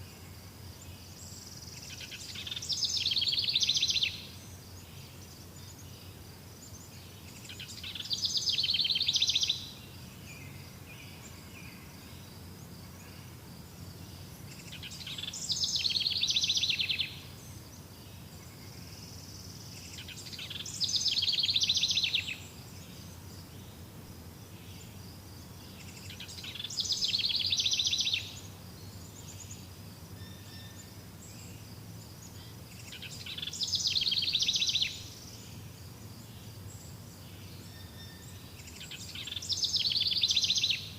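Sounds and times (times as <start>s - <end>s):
faint high-pitched hum: 0.0s - 40.9s.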